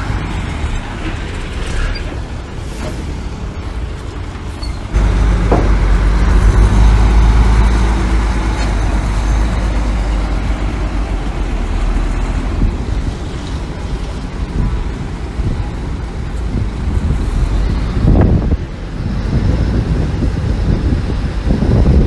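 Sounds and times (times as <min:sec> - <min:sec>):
diesel machinery engine running: 0:00.0 - 0:22.0.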